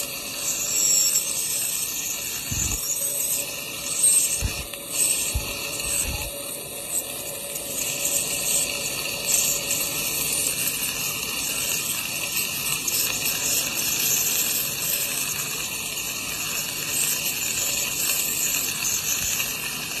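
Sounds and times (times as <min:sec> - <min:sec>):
dental scaler hissing: 0:00.0 - 0:20.0
dental suction running: 0:00.0 - 0:20.0.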